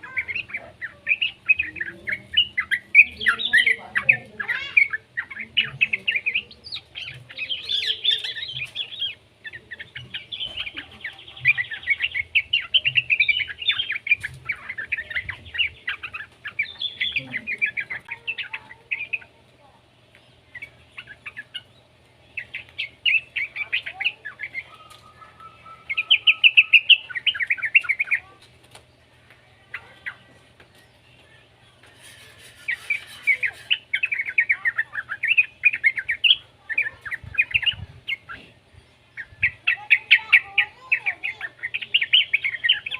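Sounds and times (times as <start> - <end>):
bird chattering chirps: 0.0 - 42.9.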